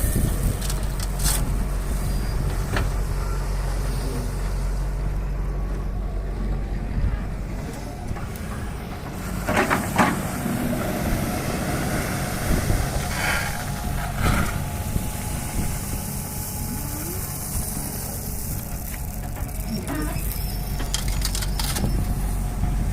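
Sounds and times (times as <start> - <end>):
diesel engines running: 0.0 - 22.9.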